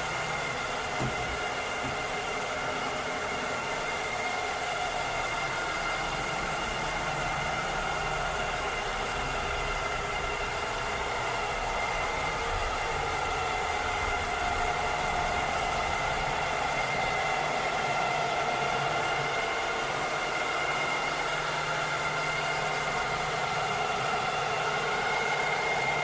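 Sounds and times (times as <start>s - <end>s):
robot vacuum cleaner running: 0.0s - 26.0s.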